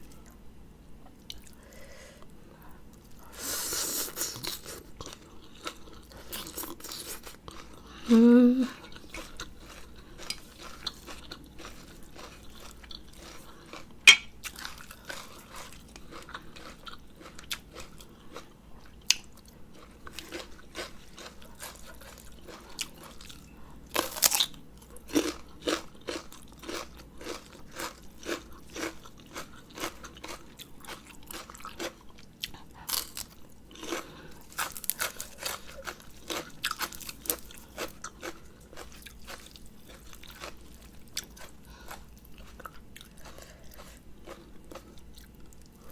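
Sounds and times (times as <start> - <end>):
chewing and crunching: 1.0 - 1.7, 4.1 - 8.1, 8.7 - 45.9.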